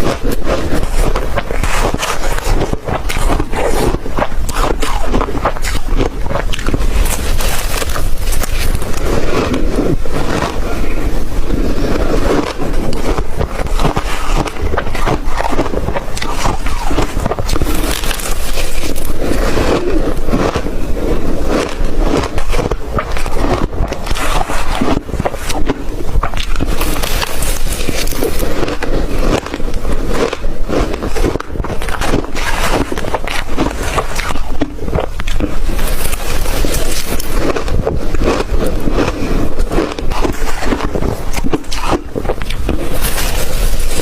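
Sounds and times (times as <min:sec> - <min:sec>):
person crunching ice: 0:00.0 - 0:44.0.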